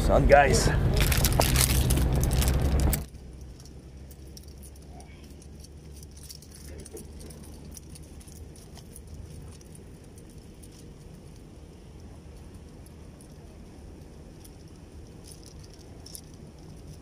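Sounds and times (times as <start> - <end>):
low rumble: 0.0 - 17.0
small light clicks and clinks: 1.1 - 17.0.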